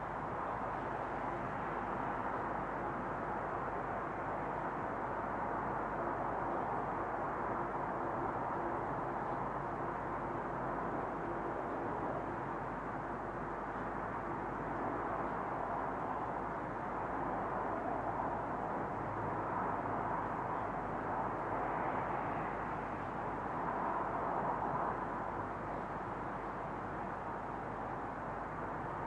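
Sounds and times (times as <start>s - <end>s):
distant road traffic: 0.0s - 29.0s.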